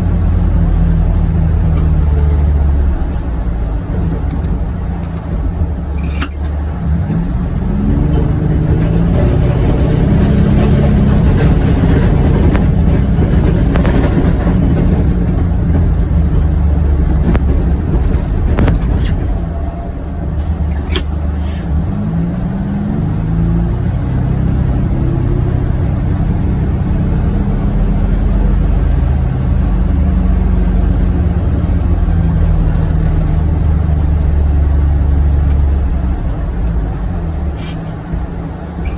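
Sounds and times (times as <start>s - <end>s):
utility vehicle engine revving: 0.0s - 38.9s.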